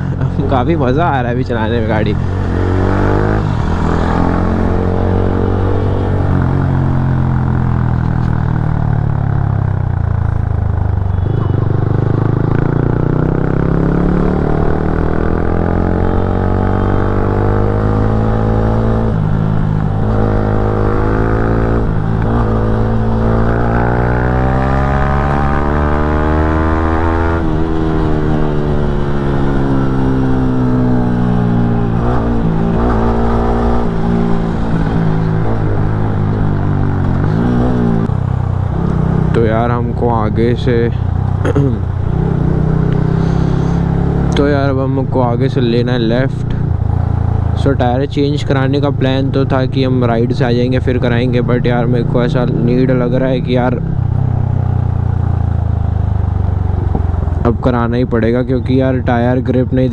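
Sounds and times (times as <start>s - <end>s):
low wind rumble: 0.0s - 59.9s
motorcycle engine revving: 0.0s - 59.9s.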